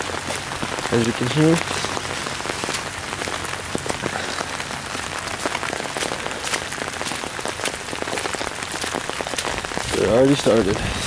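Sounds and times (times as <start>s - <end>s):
rain pattering on leaves: 0.0s - 11.0s.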